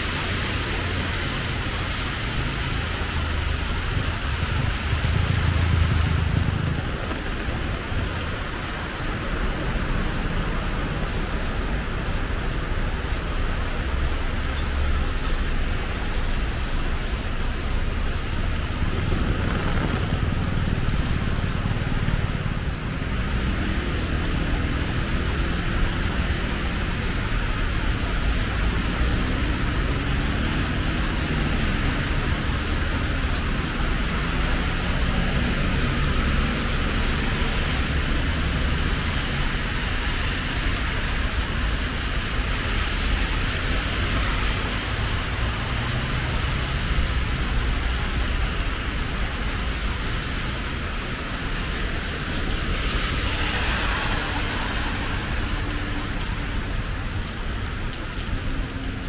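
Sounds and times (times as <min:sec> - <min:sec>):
cars passing on wet road: 0:00.0 - 0:59.0
heavy rain falling: 0:00.0 - 0:59.0.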